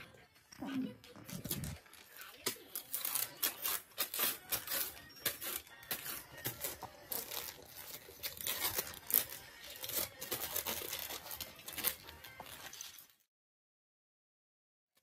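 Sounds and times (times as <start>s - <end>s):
thin sheet crinkling: 1.0s - 13.3s.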